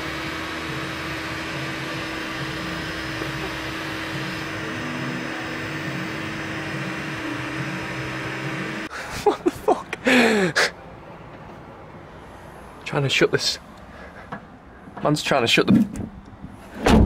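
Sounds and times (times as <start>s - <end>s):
fan machine whirring hum: 0.0s - 15.1s.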